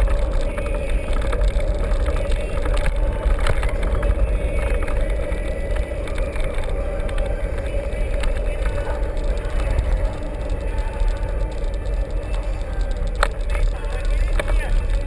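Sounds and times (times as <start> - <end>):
bike rattles and clicks: 0.0 - 15.0
wind rumble on microphone: 0.0 - 15.0.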